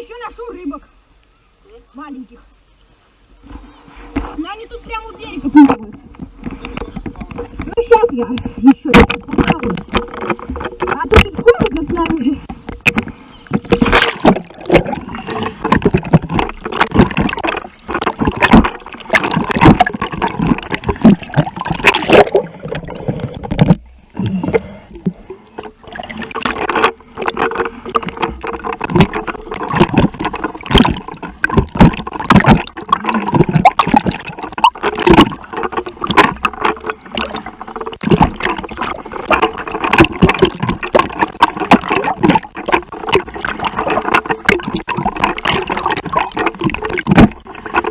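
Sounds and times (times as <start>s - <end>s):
water splashing from swimming: 3.3s - 47.9s.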